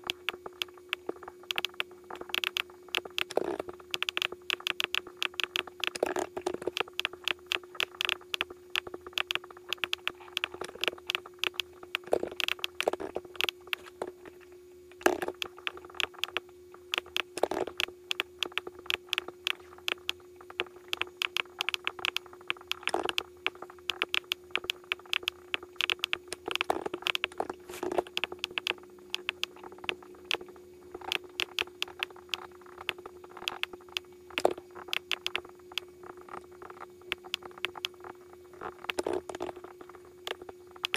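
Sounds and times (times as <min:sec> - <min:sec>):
computer keys clicking: 0:00.0 - 0:13.8, 0:15.1 - 0:35.9, 0:36.6 - 0:39.5, 0:40.2 - 0:40.9
steady low hum: 0:00.0 - 0:40.9.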